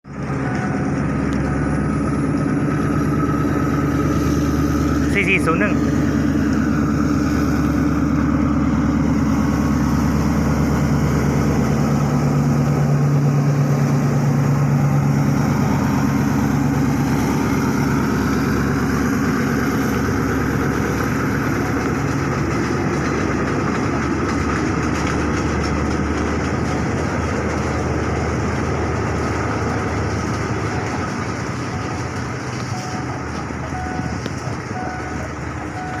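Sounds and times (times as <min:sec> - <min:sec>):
passenger train passing: 0:00.1 - 0:36.0.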